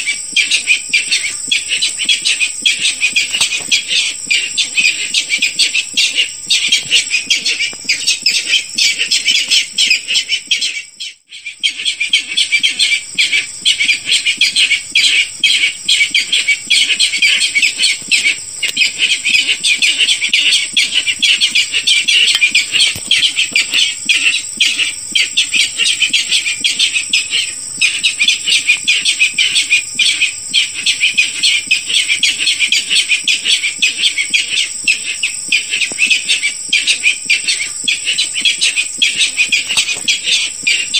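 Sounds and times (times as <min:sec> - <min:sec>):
bird harsh repeated calls: 0:00.0 - 0:40.9.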